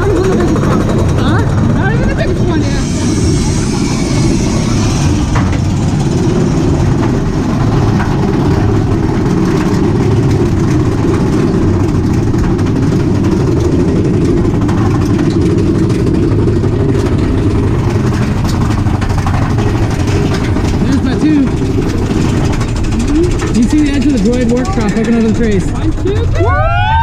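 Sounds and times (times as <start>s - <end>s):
roller coaster rumbling on track: 0.0s - 27.0s.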